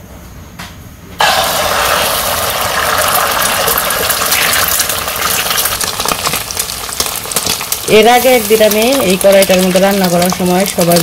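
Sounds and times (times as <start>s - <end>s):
egg sizzling in hot oil: 1.2s - 11.0s.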